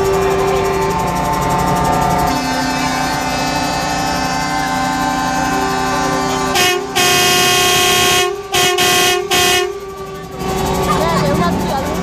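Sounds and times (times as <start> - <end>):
truck air horns: 0.0 - 11.3.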